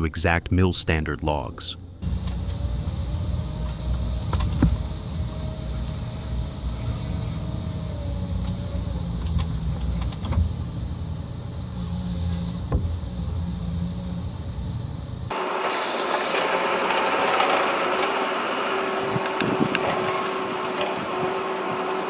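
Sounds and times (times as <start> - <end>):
diesel engine running: 1.2 - 22.0.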